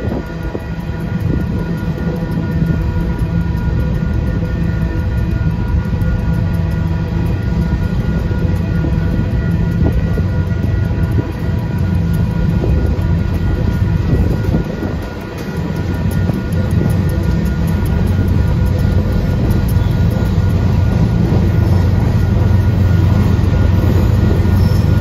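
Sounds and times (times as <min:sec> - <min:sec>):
high-pitched tones: 0:00.0 - 0:25.0
train wheels rumbling on rails: 0:00.0 - 0:25.0.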